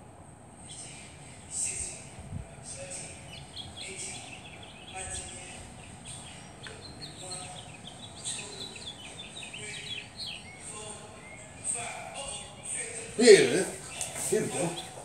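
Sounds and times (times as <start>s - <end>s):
birds chirping: 0.5s - 15.0s.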